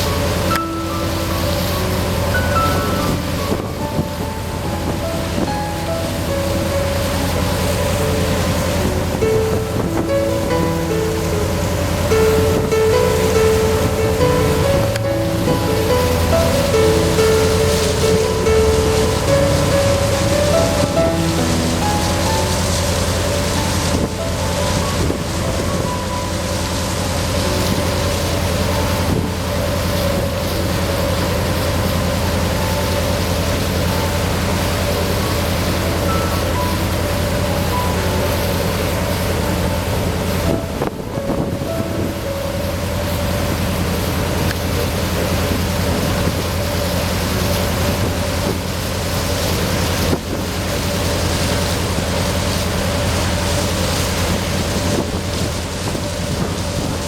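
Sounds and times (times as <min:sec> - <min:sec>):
boat engine throbbing: 0:00.0 - 0:57.0
water noise: 0:00.0 - 0:57.0
wind: 0:00.0 - 0:57.0.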